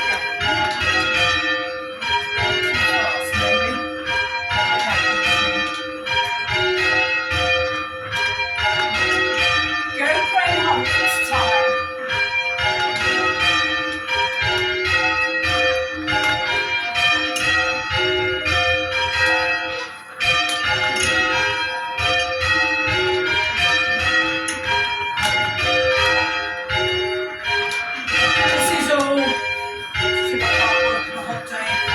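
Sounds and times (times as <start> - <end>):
church bells change-ringing: 0.0 - 31.9.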